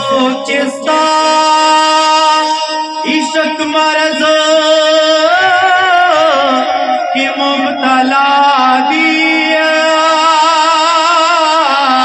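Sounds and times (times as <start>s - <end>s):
men singing into microphones: 0.0s - 12.0s.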